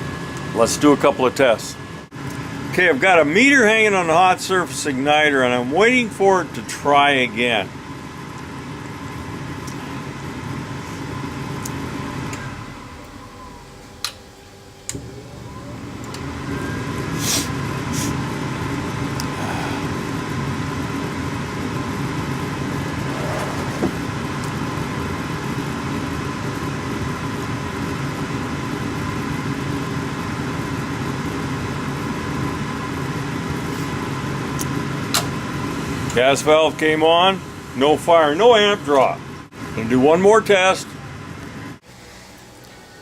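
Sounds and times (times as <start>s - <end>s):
furnace inducer motor running: 0.0s - 43.0s.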